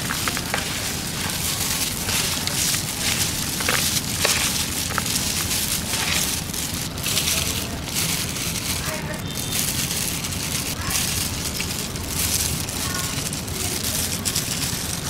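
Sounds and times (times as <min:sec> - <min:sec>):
small crackles and clicks: 0:00.0 - 0:15.0
wet rustling of salad: 0:00.0 - 0:15.0.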